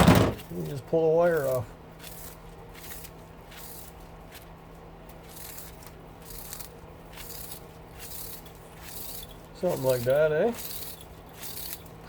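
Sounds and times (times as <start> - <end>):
wire scraping and crackling: 0.0 - 12.0.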